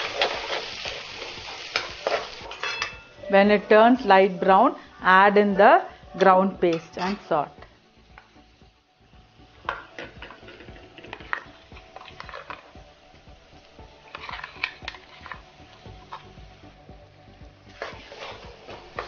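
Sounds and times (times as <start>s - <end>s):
onions sizzling: 0.0s - 19.0s.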